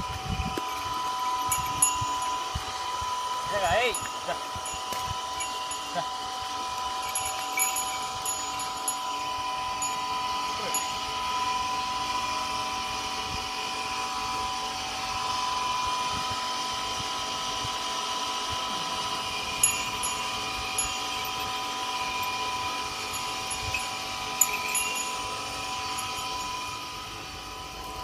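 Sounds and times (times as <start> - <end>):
machine humming with whine: 0.0 - 28.0.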